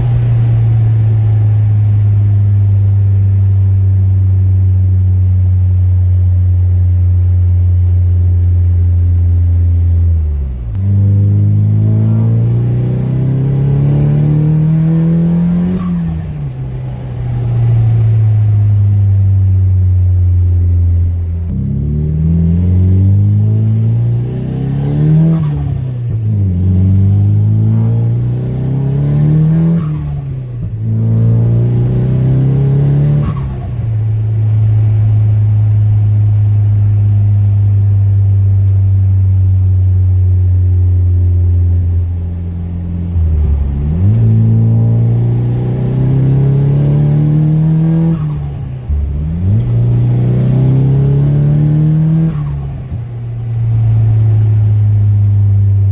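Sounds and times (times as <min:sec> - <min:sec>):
turbocharged car engine revving: 0:00.0 - 0:04.1, 0:10.1 - 0:19.8, 0:21.0 - 0:38.9, 0:41.8 - 0:55.9.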